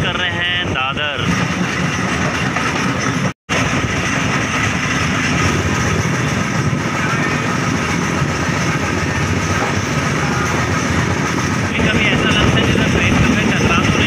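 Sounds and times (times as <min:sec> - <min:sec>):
train passing close alongside: 0:00.0 - 0:14.0
train wheels rumbling and clattering: 0:00.0 - 0:14.0.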